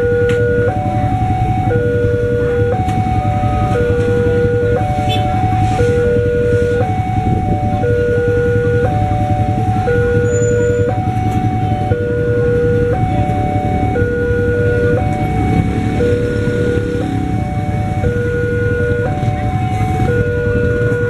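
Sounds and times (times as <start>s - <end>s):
motorcycle engines idling: 0.0s - 21.0s
two-tone level crossing alarm: 0.0s - 21.0s.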